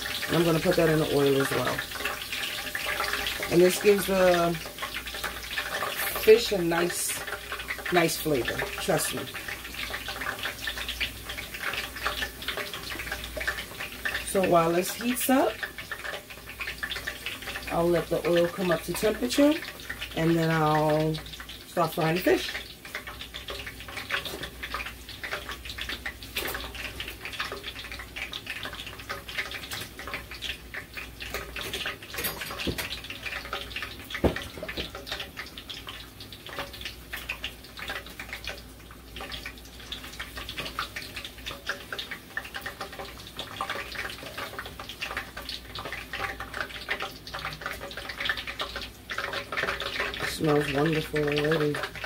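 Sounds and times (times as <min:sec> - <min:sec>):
hot oil sizzling and popping: 0:00.0 - 0:52.0.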